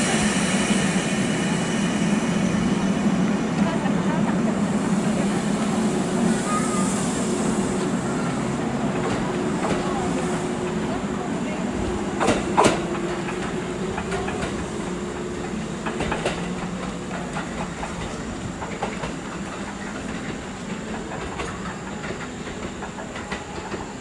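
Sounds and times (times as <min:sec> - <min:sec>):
electric train humming and rumbling: 0:00.0 - 0:24.0.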